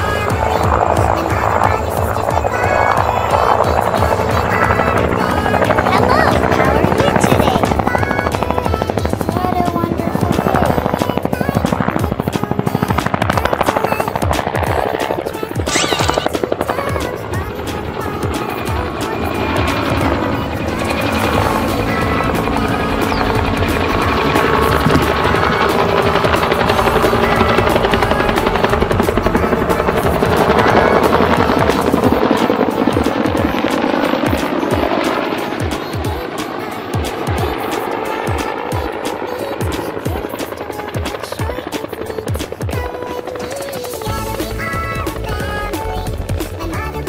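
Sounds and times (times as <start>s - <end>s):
background music: 0.0s - 47.0s
cartoon helicopter rotor chopping: 0.0s - 47.0s.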